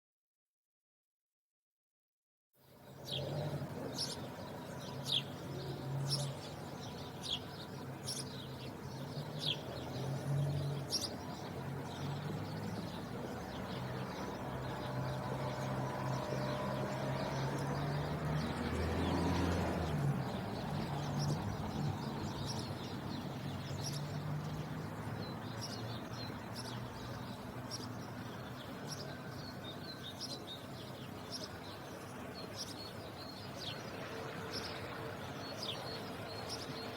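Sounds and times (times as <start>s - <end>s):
sparrows chirping: 2.7s - 36.9s.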